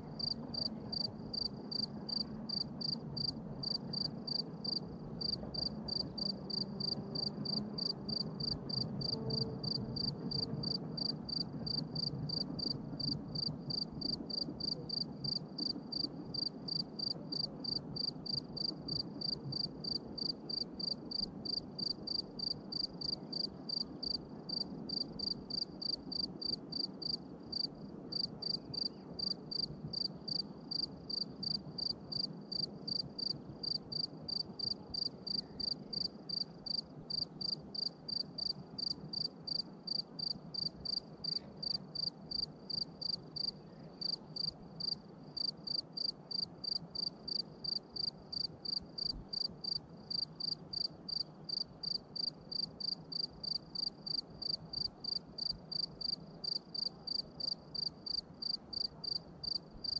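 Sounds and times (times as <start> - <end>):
cricket chirping: 0.1 - 59.9.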